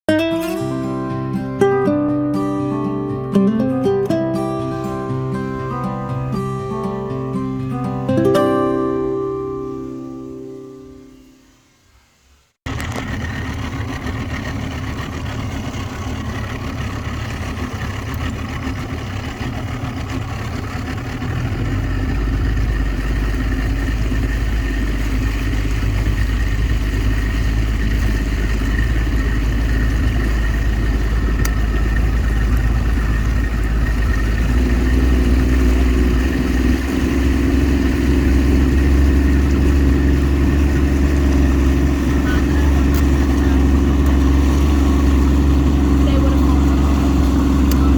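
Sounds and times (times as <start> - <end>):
engine humming: 0.1 - 47.9.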